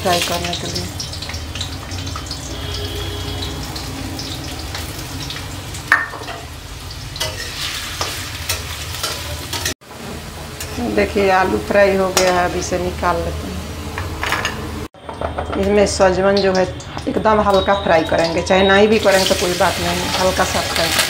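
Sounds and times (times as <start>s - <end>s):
potato slices sizzling in oil: 0.0s - 13.3s, 15.9s - 21.0s.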